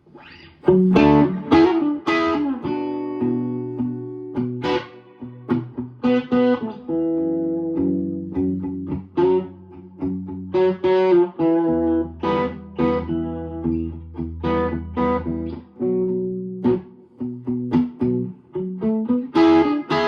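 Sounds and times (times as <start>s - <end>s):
electric guitar through amp: 0.2s - 20.0s.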